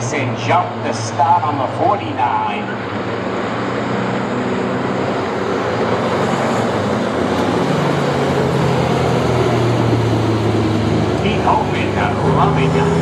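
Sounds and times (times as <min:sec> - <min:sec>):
race truck engines humming: 0:00.0 - 0:13.0.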